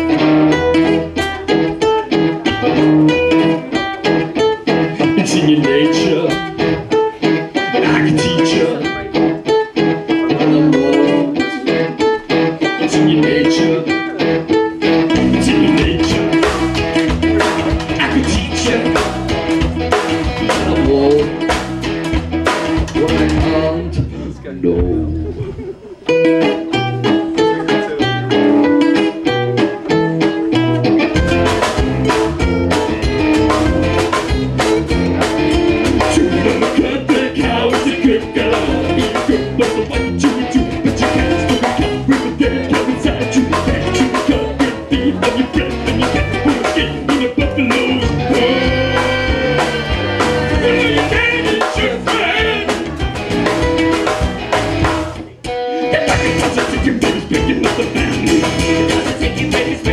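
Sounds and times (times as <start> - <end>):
drum kit: 0.0 - 13.7, 14.4 - 59.9
person singing: 0.0 - 19.5, 20.2 - 21.5, 22.8 - 30.0, 33.3 - 54.3, 55.2 - 59.9
acoustic and electric guitars: 0.0 - 59.9.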